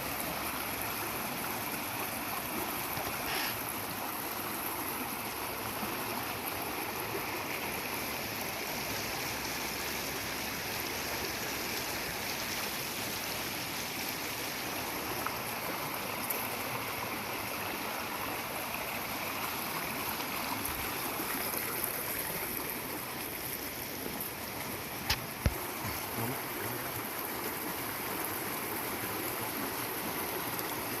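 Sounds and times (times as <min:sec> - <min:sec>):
stream running: 0:00.0 - 0:31.0.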